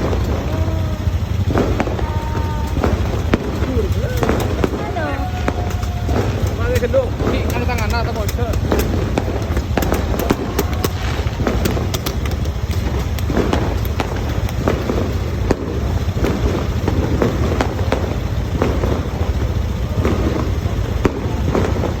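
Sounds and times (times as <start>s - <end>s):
fireworks cracks and bangs: 0.0s - 22.0s
low rumble: 0.0s - 22.0s.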